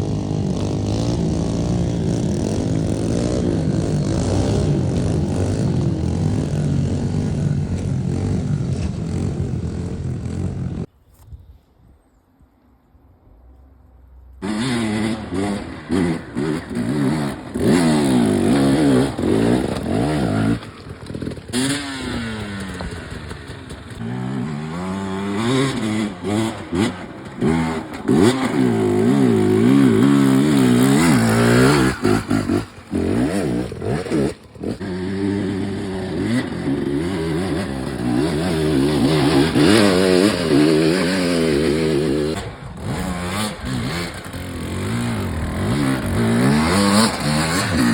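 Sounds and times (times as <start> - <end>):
dirt bike engines revving: 0.0 - 10.9, 14.1 - 47.9.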